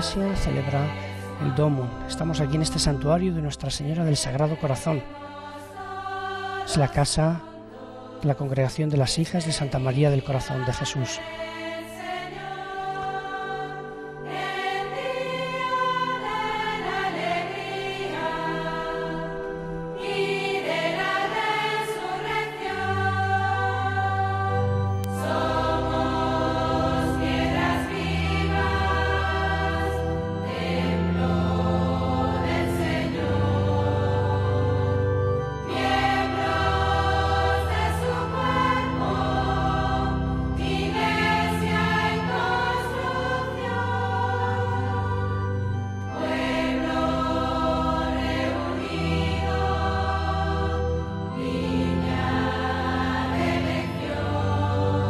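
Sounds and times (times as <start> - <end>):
choir singing a hymn: 0.0 - 55.0
deep sustained accompaniment: 0.0 - 55.0.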